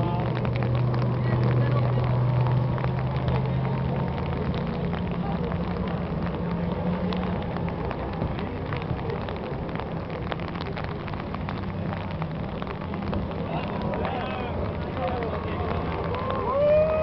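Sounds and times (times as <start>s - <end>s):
heavy rain: 0.0s - 17.0s
raindrops ticking close by: 0.0s - 17.0s.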